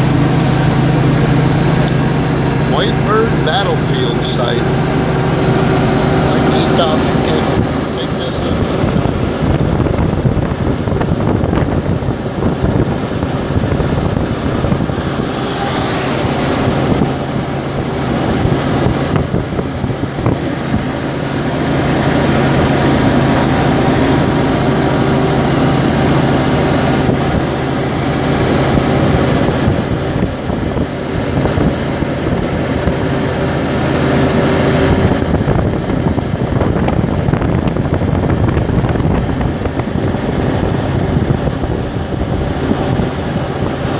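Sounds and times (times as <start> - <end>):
car engine low drone: 0.0 - 43.9
road and wind noise: 0.0 - 43.9.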